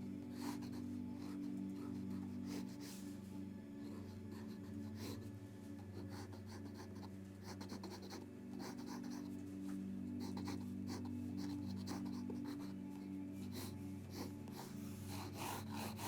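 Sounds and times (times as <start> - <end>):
steady low hum: 0.0 - 16.0
pencil scratching on paper: 0.3 - 3.1, 3.8 - 9.4, 10.1 - 16.0.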